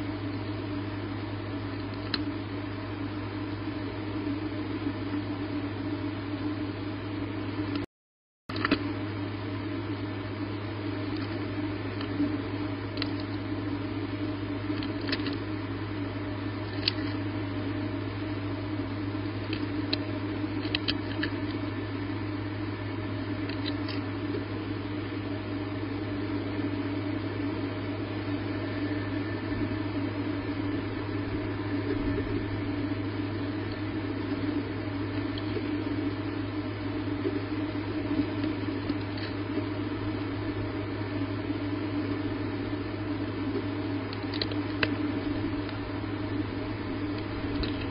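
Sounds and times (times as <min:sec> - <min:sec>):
low electrical hum with hiss: 0:00.0 - 0:07.8, 0:08.5 - 0:47.9.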